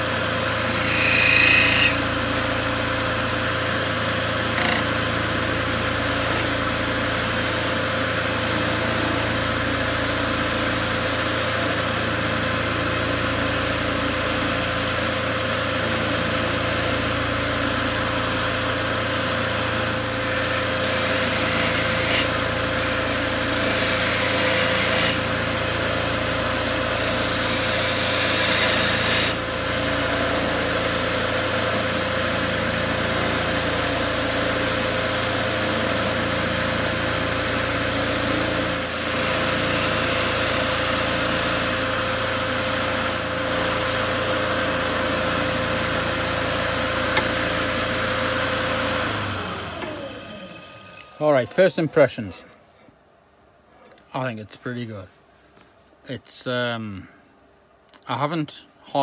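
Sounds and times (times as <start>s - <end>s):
lathe knife cutting wood: 0.0s - 51.3s
wood lathe motor hum: 0.0s - 51.3s.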